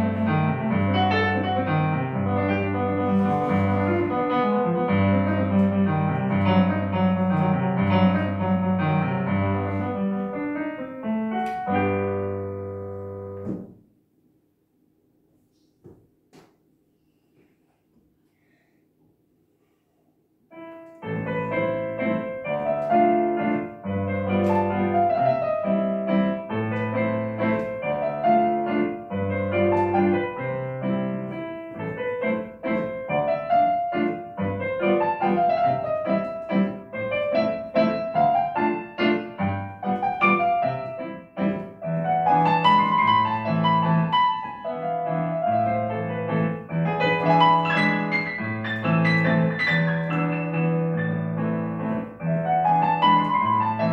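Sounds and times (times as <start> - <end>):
classical piano piece: 0.0 - 13.9, 20.5 - 53.9.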